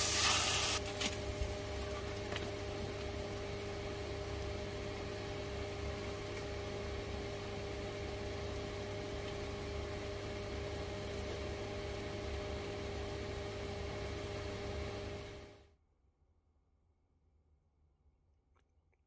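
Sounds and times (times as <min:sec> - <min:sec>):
motor hum with low rumble: 0:00.0 - 0:15.8.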